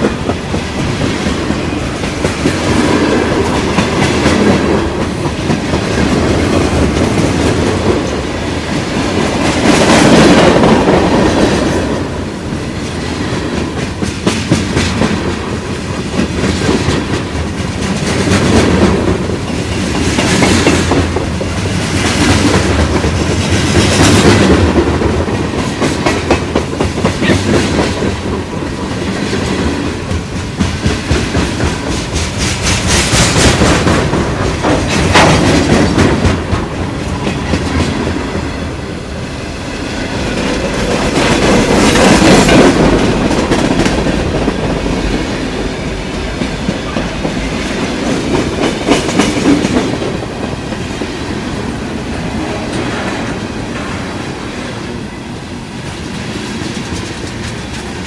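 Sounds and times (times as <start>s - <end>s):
train wheels clacking over rail joints: 0.0s - 38.6s, 39.7s - 54.2s, 55.8s - 58.0s
freight train rumbling past: 0.0s - 58.0s.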